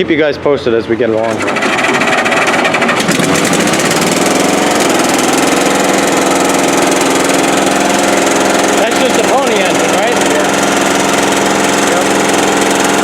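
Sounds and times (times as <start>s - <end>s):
air compressor starting engine running: 1.0s - 13.0s.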